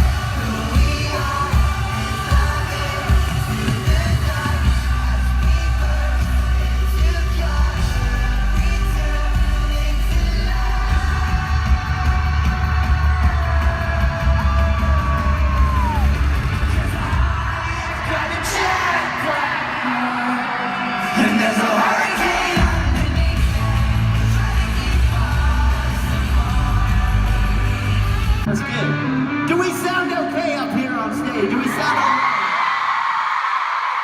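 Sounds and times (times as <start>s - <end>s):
crowd screaming and cheering: 0.0s - 34.0s
live pop-rock band with singing: 0.0s - 34.0s.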